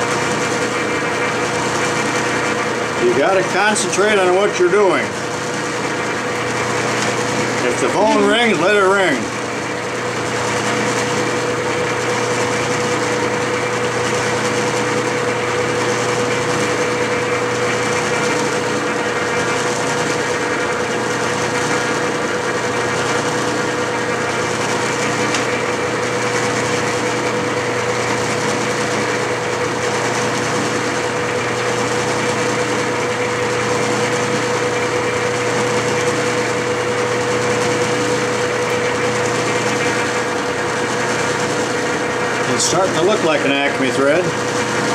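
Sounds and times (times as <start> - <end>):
metal lathe humming: 0.0 - 44.9.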